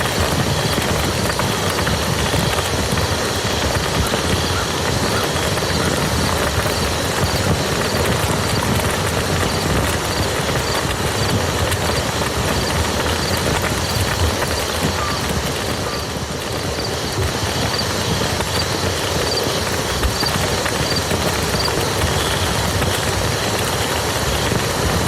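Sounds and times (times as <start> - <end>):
heavy rain on a field: 0.0 - 25.0.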